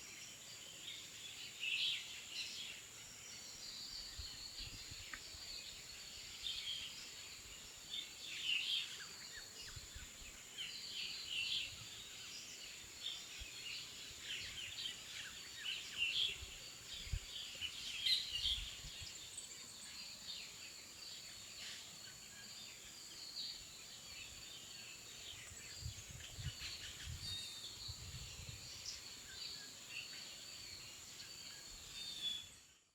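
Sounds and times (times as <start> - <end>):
small birds chirping: 0.0 - 32.6.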